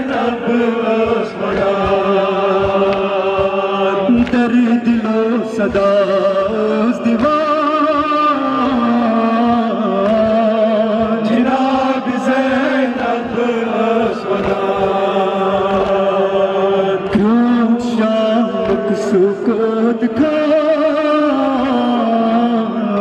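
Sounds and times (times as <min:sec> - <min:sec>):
man chanting over loudspeaker: 0:00.0 - 0:23.0.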